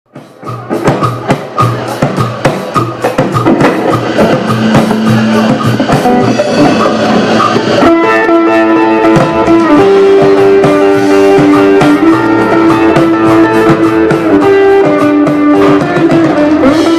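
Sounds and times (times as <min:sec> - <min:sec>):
guitar-led music: 0:00.2 - 0:16.9.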